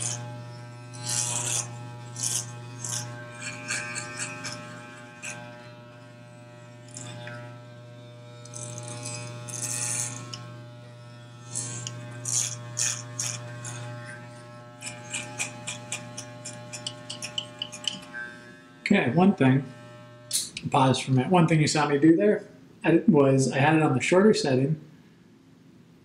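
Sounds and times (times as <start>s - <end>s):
electric hair clippers buzzing: 0.0s - 21.1s.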